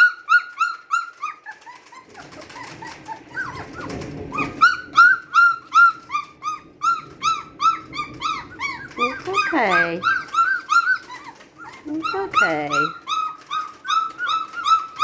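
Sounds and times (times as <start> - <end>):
puppy whining: 0.0 - 15.0.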